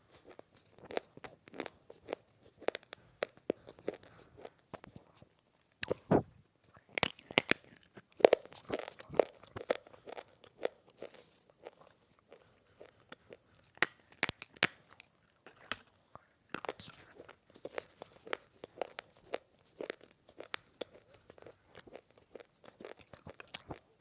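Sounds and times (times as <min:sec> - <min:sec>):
dry clay being chewed: 0:00.0 - 0:06.1, 0:06.7 - 0:24.0.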